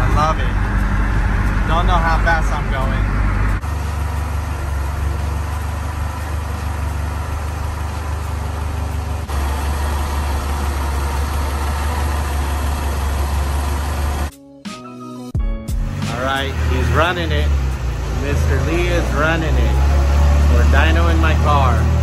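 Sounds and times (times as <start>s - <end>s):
car engine idling: 0.0s - 14.3s, 15.9s - 22.0s.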